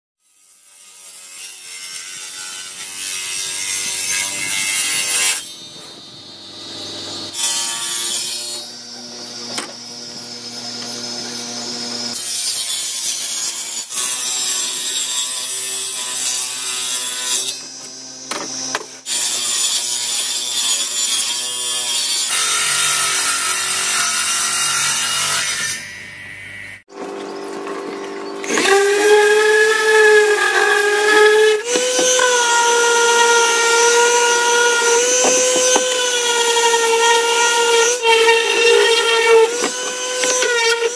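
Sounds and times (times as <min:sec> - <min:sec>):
table saw cutting plywood: 0:00.2 - 0:40.9.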